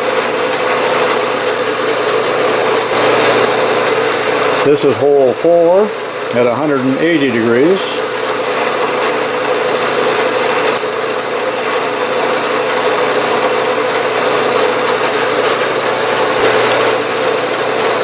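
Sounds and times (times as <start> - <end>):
drill cutting aluminum: 0.0 - 18.0
milling machine spindle humming: 0.0 - 18.0.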